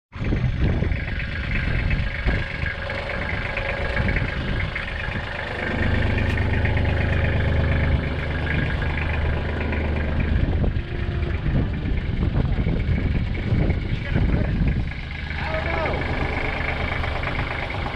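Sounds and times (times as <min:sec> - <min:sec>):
excavator diesel engine running: 0:00.2 - 0:17.9.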